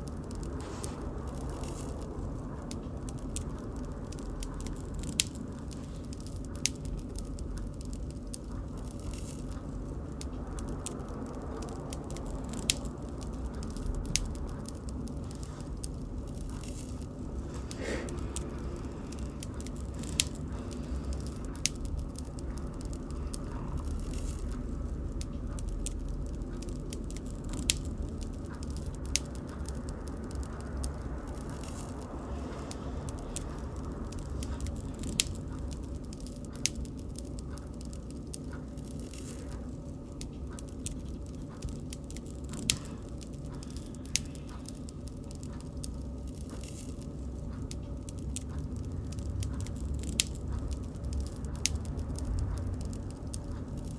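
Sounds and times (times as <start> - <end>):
bonfire flames rushing: 0.0 - 53.9
fire crackling: 0.0 - 53.9
fire popping: 0.0 - 53.9.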